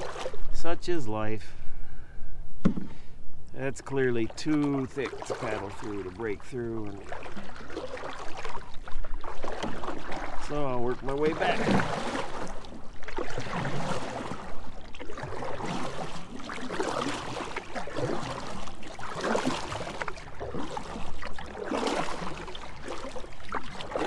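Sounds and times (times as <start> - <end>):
canoe paddle splashing water: 0.0 - 1.1, 2.6 - 24.0.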